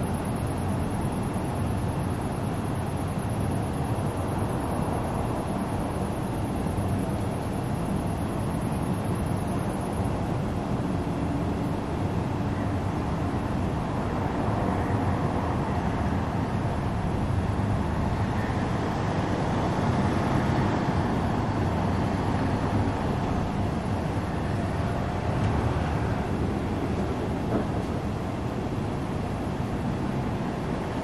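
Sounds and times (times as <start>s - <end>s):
low outdoor rumble with hiss: 0.0s - 31.0s.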